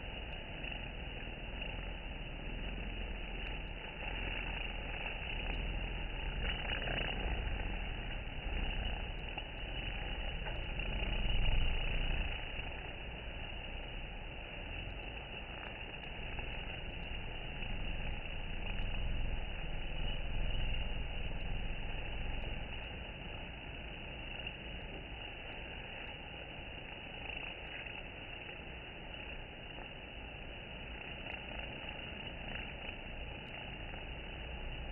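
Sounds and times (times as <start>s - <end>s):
honeybees buzzing: 0.0s - 34.9s.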